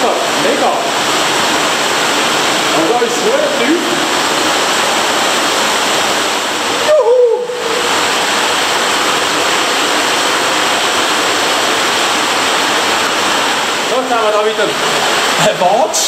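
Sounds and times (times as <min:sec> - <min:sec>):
rushing cave stream: 0:00.0 - 0:16.0.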